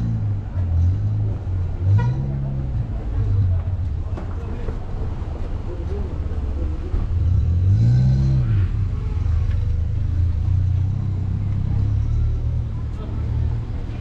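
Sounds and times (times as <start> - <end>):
car engine revving: 0.0 - 4.3, 5.1 - 14.0.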